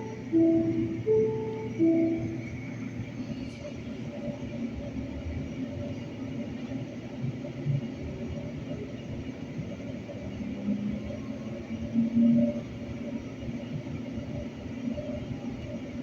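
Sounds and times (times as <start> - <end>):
faint steady hum: 0.0 - 16.0
light-rail car rumbling: 0.0 - 16.0.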